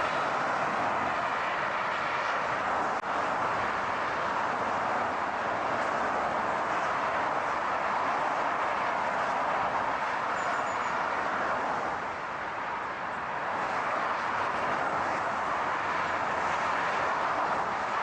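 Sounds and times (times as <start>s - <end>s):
tyres rushing on road: 0.0s - 18.0s.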